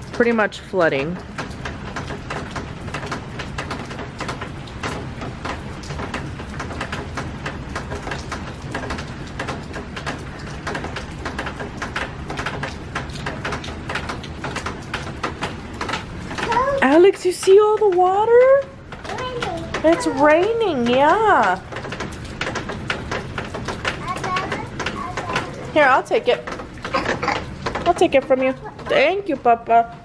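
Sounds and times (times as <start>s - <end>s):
heavy rain: 0.0s - 30.0s
raindrop impacts: 0.0s - 30.0s.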